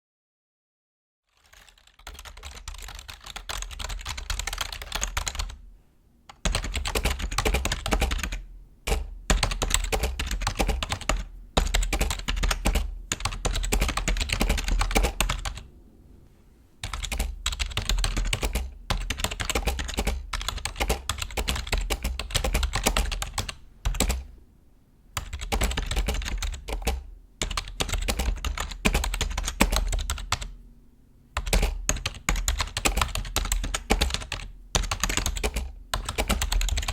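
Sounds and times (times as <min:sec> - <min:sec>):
keyboard typing: 0:01.3 - 0:05.6, 0:06.3 - 0:15.7, 0:16.8 - 0:24.3, 0:25.2 - 0:30.6, 0:31.4 - 0:36.9.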